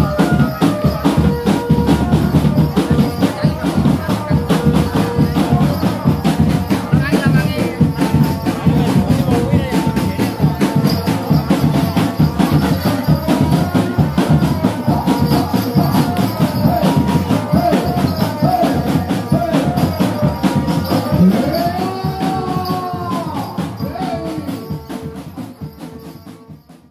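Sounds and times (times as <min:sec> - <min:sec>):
fast drumming: 0:00.0 - 0:26.9
shaken jingles: 0:00.0 - 0:26.9.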